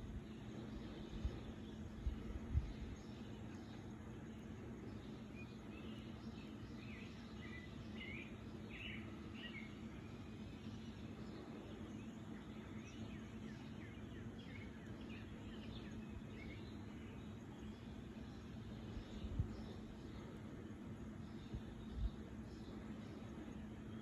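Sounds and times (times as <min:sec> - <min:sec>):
birds chirping faintly: 0:00.0 - 0:24.0
steady low hum: 0:00.0 - 0:24.0.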